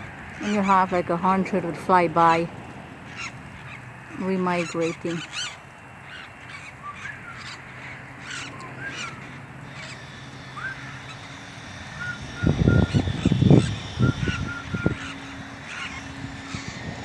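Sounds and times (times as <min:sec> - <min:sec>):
parrots squawking: 0:03.1 - 0:17.0.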